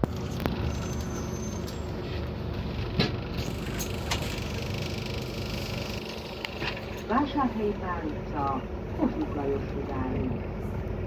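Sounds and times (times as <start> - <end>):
bus engine and road drone: 0.0 - 11.0
interior rattles and clicks: 0.0 - 11.0.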